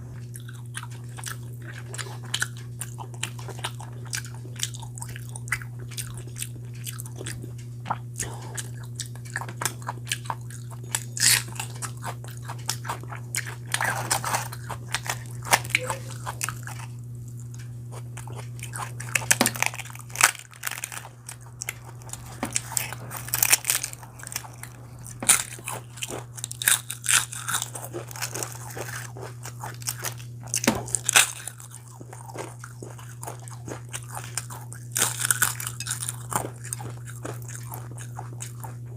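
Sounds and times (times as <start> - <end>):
person chewing crunchy food: 0.0 - 38.9
steady low hum: 0.0 - 38.9.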